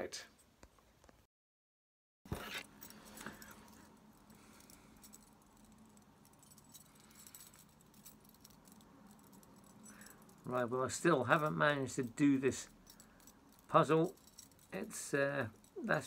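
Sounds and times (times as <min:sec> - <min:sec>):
metal wire pieces clinking: 0:02.5 - 0:16.0.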